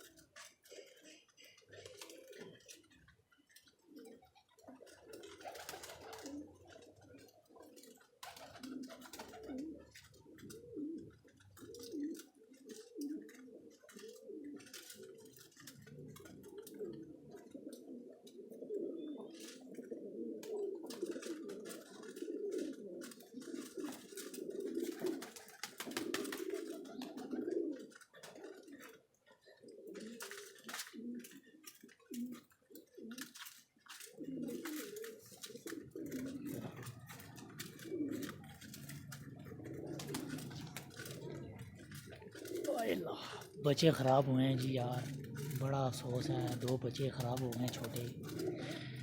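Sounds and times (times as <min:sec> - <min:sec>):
pigeons cooing: 0:00.0 - 0:49.0.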